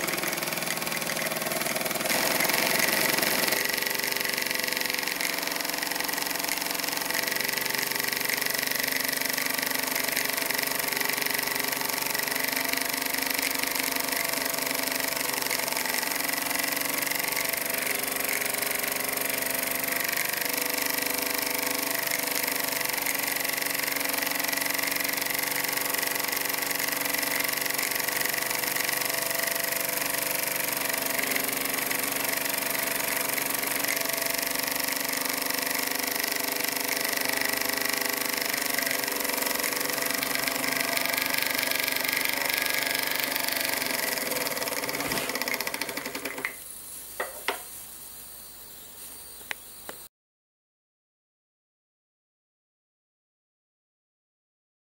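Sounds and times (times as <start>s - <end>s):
model steam engine running: 0.0s - 46.6s.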